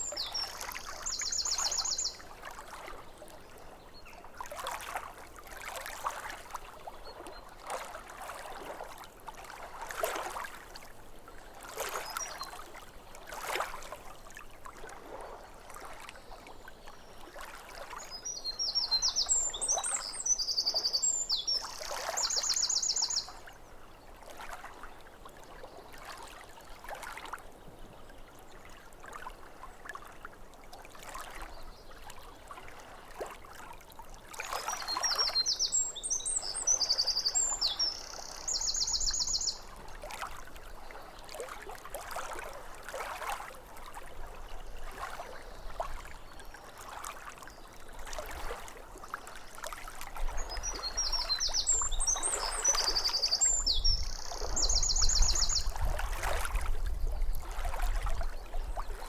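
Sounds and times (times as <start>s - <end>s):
small waves lapping at shore: 0.0s - 59.0s.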